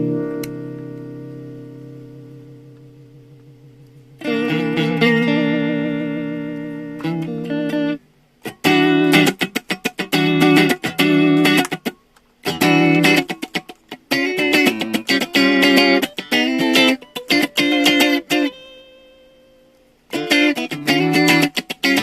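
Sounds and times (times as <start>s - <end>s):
clean electric guitar chords: 0.0s - 22.0s.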